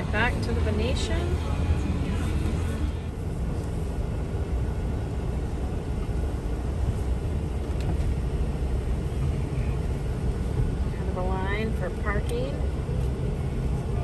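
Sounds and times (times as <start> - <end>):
truck road and engine rumble: 0.0 - 14.0.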